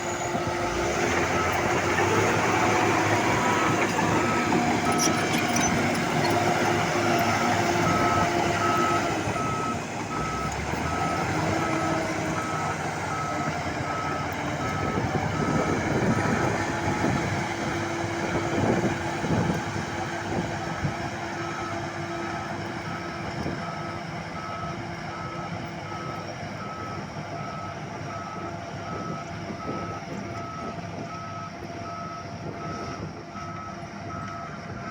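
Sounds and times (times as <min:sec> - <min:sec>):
reversing alarm beeping: 0:00.0 - 0:19.5, 0:23.4 - 0:34.9.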